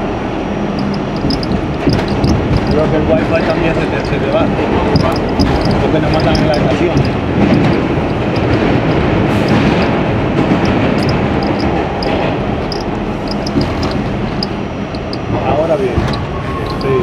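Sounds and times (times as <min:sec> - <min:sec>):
subway train wheels rumbling: 0:00.0 - 0:01.8, 0:02.4 - 0:13.3, 0:14.0 - 0:17.0.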